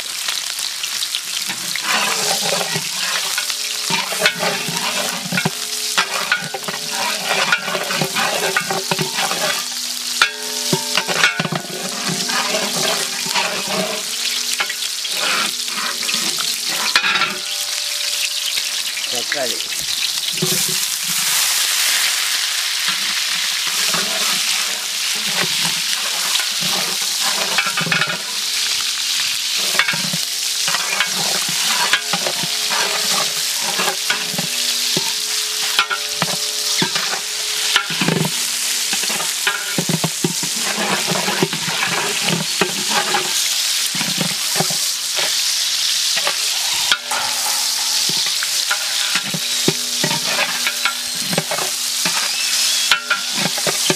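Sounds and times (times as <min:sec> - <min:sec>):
vegetables sizzling in hot oil: 0:00.0 - 0:53.9
metal ladle scraping a pot: 0:01.3 - 0:19.1, 0:19.7 - 0:53.9.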